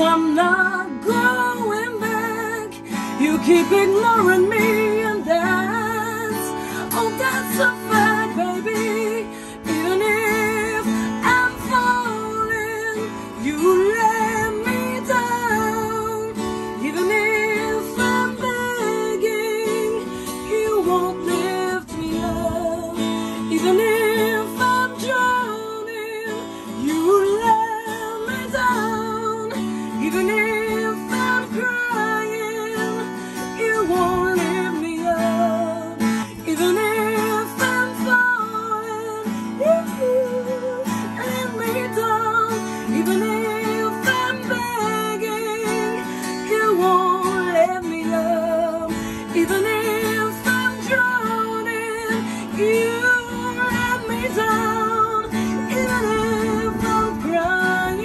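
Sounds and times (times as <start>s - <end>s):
strummed acoustic guitar: 0.0s - 58.0s
woman singing: 0.0s - 58.0s.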